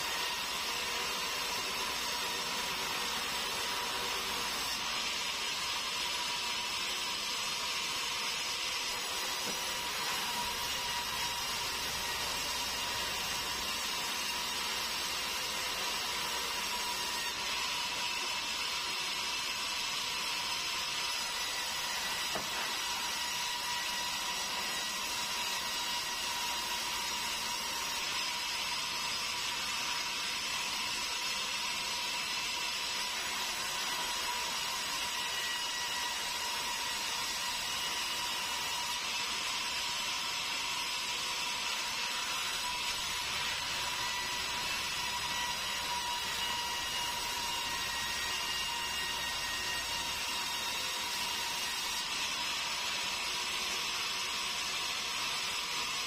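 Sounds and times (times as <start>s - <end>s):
band saw whining: 0.0s - 56.0s.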